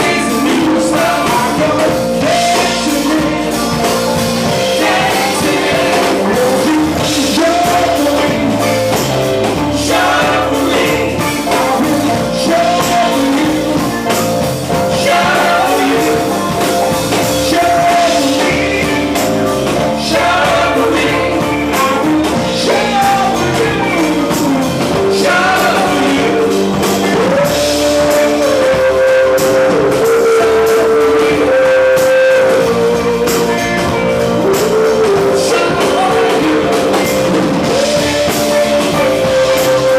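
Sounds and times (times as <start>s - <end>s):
drums: 0.0s - 39.9s
live rock band playing: 0.0s - 39.9s
person singing: 0.0s - 39.9s.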